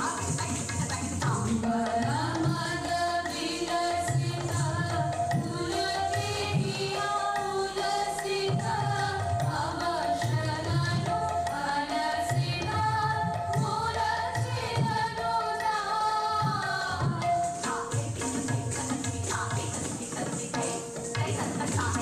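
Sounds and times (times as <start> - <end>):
tabla strokes: 0.0 - 22.0.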